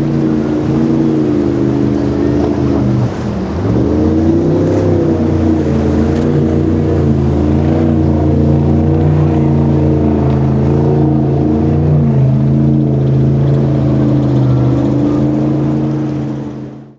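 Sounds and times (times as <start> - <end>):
motorboat engines running: 0.0 - 16.9.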